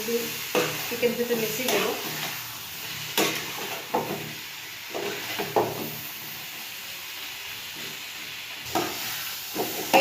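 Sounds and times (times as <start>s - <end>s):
spatula scraping a pan: 0.0s - 6.1s, 7.7s - 10.0s
food sizzling in a pan: 0.0s - 10.0s.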